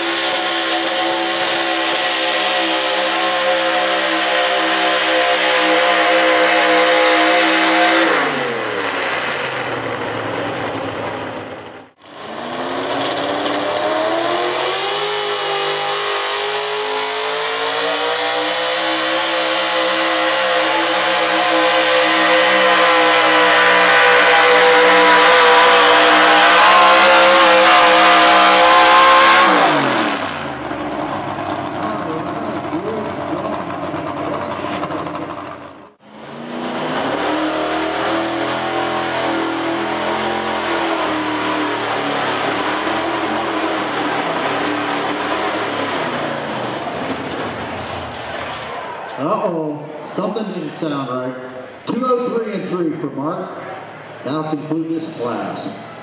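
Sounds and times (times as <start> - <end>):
truck engines running hard: 0.0 - 56.0.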